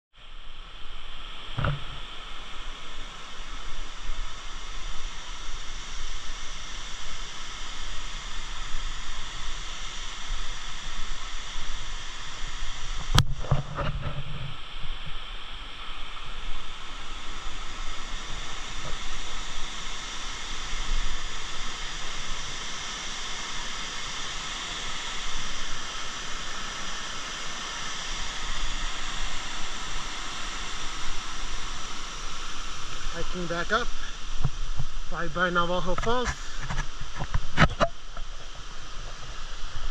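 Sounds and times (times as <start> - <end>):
waterfall rushing: 0.3 - 13.5, 14.3 - 39.9.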